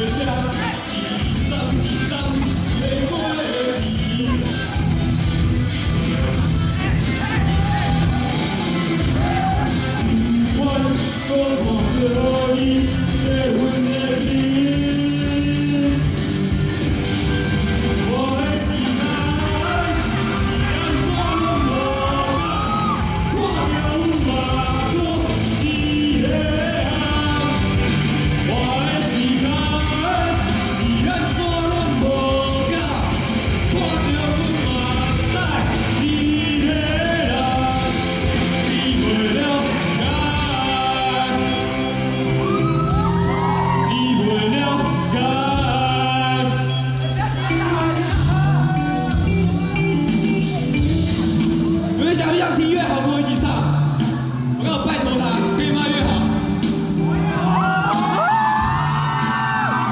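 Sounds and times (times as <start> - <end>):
rock backing track: 0.0 - 43.9, 44.7 - 59.9
person singing live: 0.0 - 59.9.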